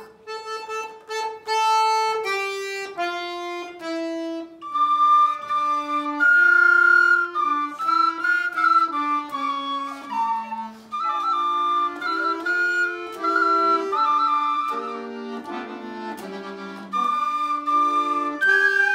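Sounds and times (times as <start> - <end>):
children playing wooden flutes: 0.0 - 18.9.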